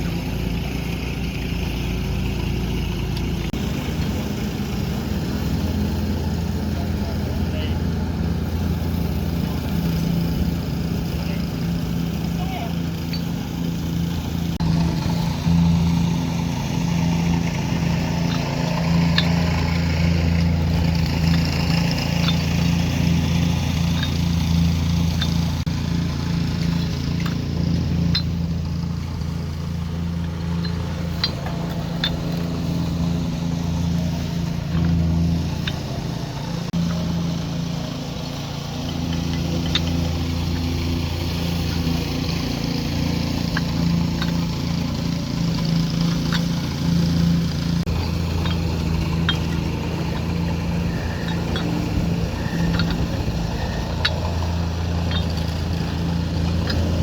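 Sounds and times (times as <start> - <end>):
heavy machine engine humming: 0.0 - 57.0.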